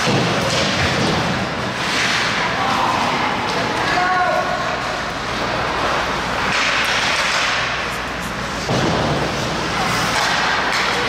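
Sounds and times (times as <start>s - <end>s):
hockey sticks: 0.0s - 11.0s.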